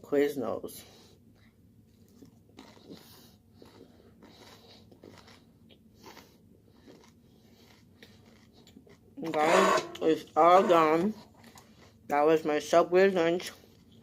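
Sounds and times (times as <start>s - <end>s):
person chewing food: 1.0s - 12.2s, 13.4s - 14.0s.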